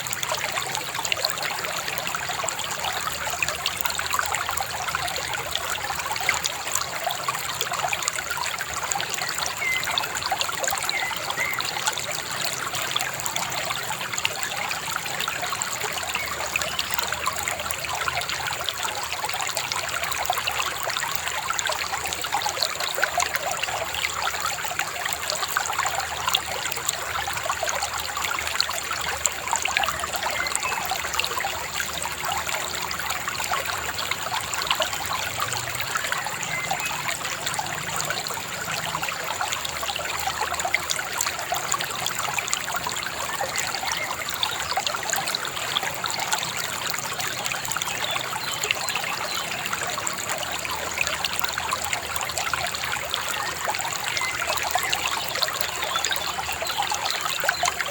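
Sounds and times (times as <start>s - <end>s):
river babbling over stones: 0.0s - 57.9s.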